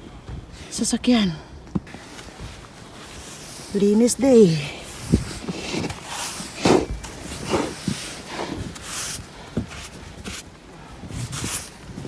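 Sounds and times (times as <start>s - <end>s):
crunches and scrapes in snow: 1.9s - 12.0s.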